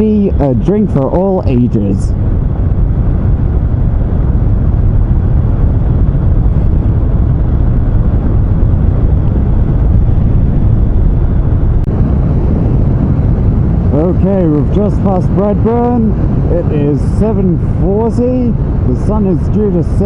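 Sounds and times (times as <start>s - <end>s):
wind and road rush: 0.0s - 20.0s
motorcycle engine running: 2.2s - 20.0s.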